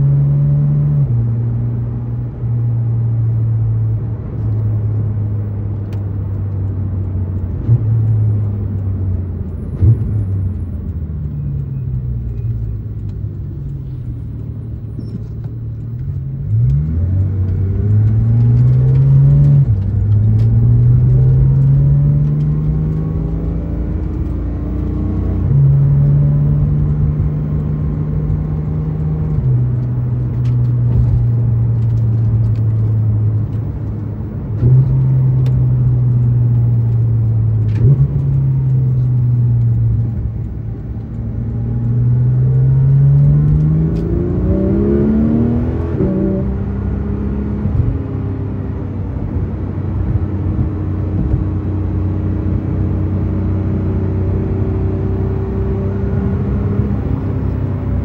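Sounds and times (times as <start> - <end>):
car engine heard in cabin: 0.0 - 58.0.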